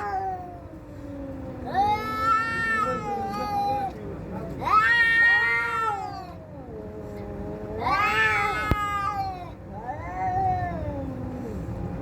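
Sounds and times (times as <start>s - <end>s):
cats yowling in a fight: 0.0s - 12.0s.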